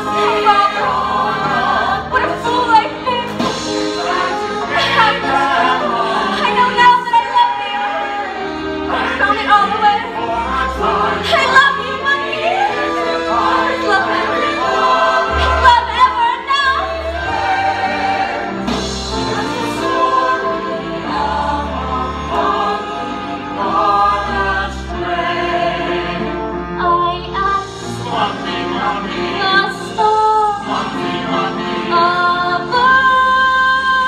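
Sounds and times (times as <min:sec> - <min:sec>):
instrumental accompaniment: 0:00.0 - 0:34.0.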